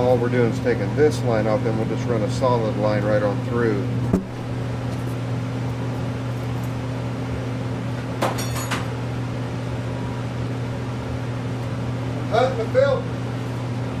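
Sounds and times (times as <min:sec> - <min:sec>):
heater humming with fan noise: 0:00.0 - 0:14.0.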